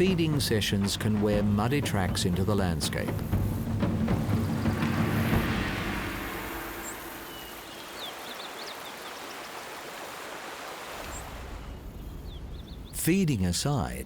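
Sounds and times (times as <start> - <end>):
rushing water hiss: 0.0 - 12.6.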